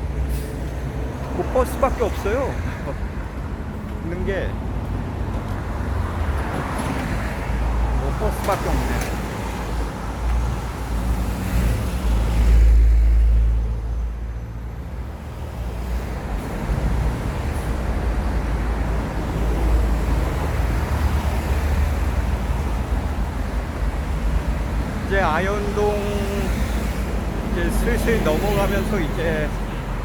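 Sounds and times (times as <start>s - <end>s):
road traffic with buses passing: 0.0s - 30.0s.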